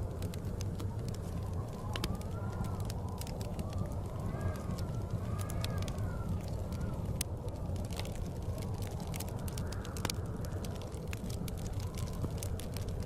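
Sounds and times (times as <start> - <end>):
blizzard wind howling: 0.0 - 13.0
wood fire crackling: 0.0 - 13.0.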